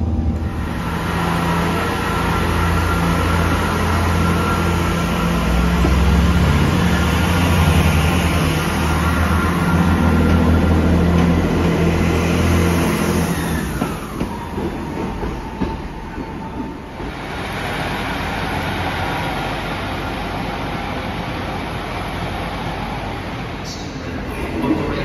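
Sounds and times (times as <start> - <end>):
train falling whine: 0.0 - 24.9
train engine drone: 0.0 - 25.0.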